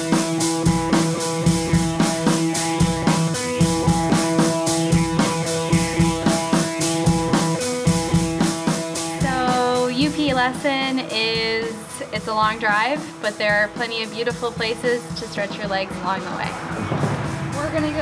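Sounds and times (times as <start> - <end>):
background music with drum beat: 0.0 - 18.0.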